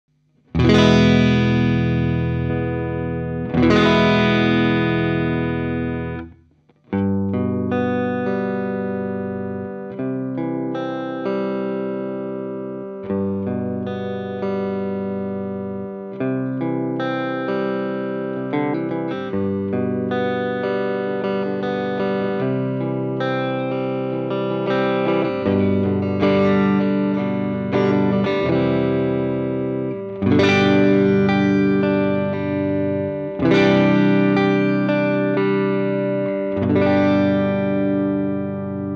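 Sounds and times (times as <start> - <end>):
overdriven electric guitar: 0.4 - 38.9.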